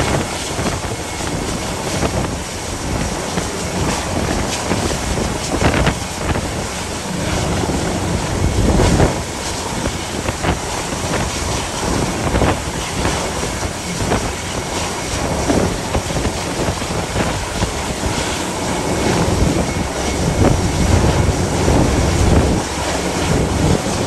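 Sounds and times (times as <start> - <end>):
gale wind buffeting microphone: 0.0 - 24.0.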